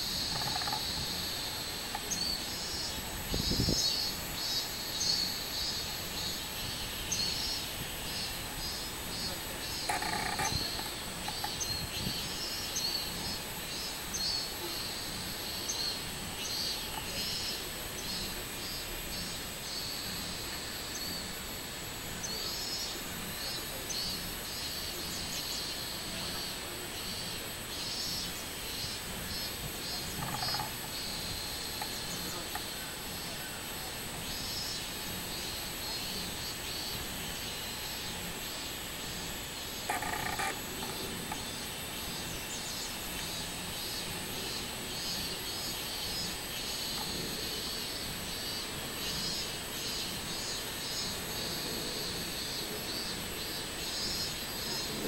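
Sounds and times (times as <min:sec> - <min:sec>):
cicadas calling: 0:00.0 - 0:55.0
high-pitched insect whine: 0:00.0 - 0:55.0.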